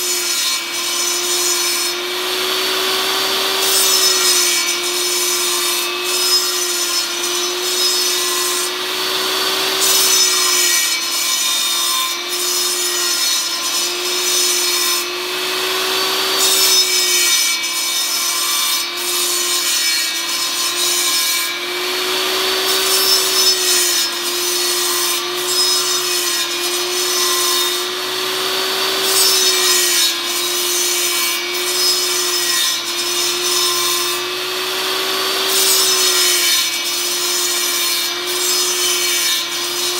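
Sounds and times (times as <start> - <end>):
saw blade rasping through wood: 0.0 - 39.9
table saw whine: 0.0 - 39.9.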